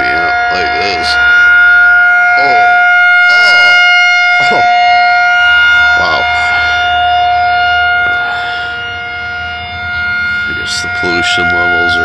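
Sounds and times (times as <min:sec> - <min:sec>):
falling siren sweeps: 0:00.0 - 0:12.0
warning siren steady tone: 0:00.0 - 0:12.0.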